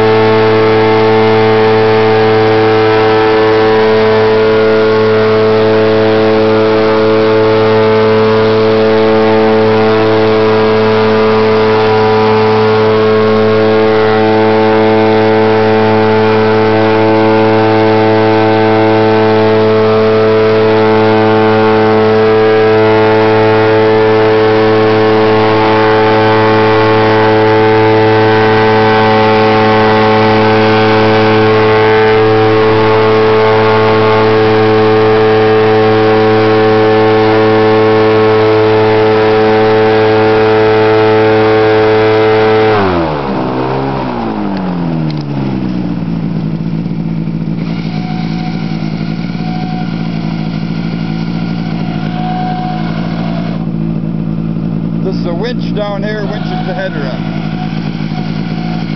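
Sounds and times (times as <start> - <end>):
boat engine running: 0.0 - 58.9.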